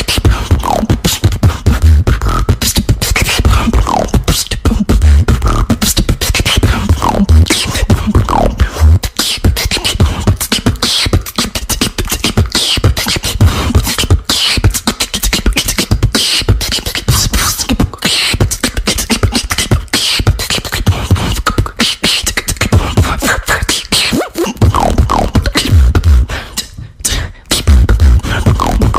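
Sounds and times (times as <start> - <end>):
person beatboxing: 0.0 - 28.9.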